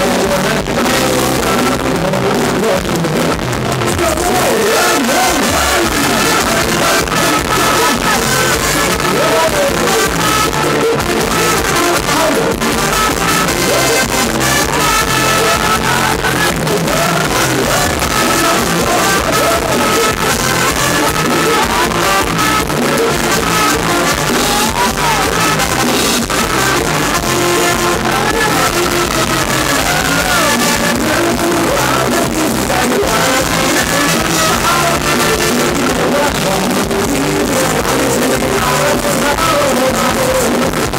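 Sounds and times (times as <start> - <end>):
live band dance music: 0.0 - 40.9
men singing into microphones: 0.0 - 40.9.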